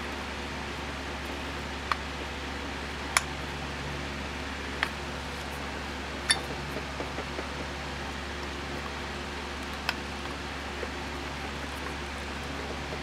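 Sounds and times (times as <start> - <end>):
low hum and fan hiss: 0.0 - 13.0.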